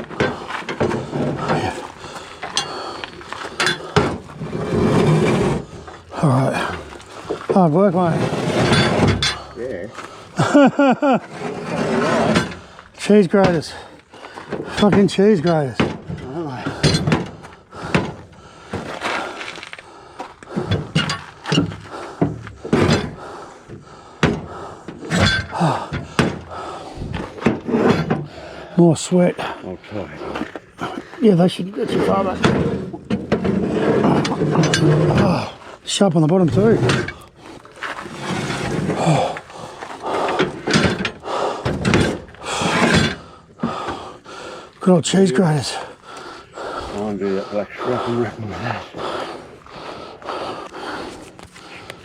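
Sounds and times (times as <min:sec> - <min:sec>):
heavy metal parts knocking and scraping: 0:00.0 - 0:50.5.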